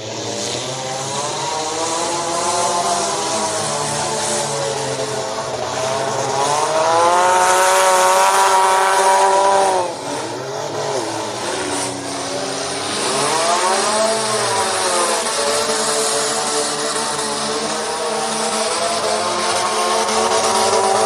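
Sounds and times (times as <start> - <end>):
car engine revving hard: 0.0 - 21.0
drone of other engines: 0.0 - 21.0.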